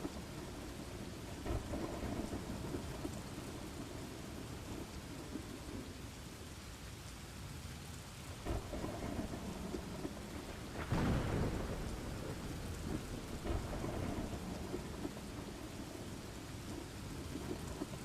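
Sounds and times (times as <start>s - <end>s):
thunder rumbling: 0.0s - 6.1s, 8.4s - 18.0s
steady rain: 0.0s - 18.0s.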